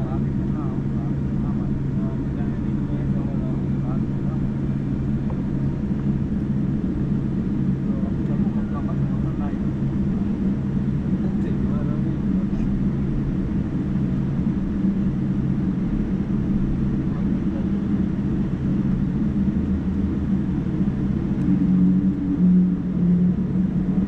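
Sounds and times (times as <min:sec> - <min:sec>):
airliner cabin drone: 0:00.0 - 0:24.0
low hum: 0:00.0 - 0:24.0.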